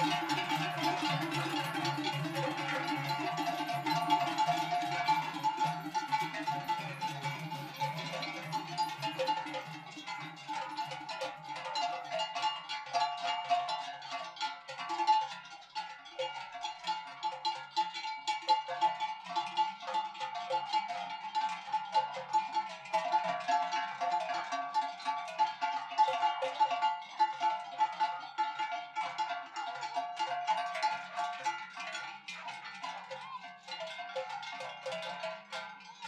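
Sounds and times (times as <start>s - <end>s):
cowbells clanging: 0.0s - 36.0s.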